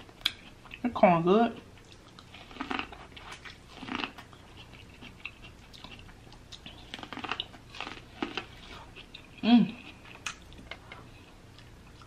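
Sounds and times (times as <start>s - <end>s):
corn on the cob being chewed: 1.8s - 12.0s.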